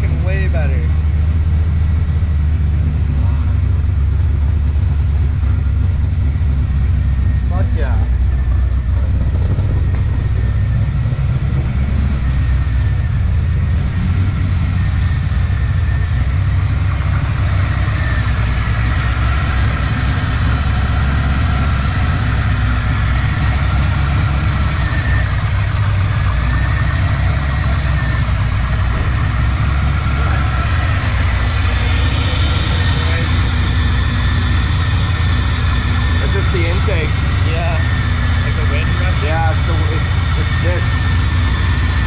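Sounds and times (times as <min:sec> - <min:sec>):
car engine droning: 0:00.0 - 0:42.0.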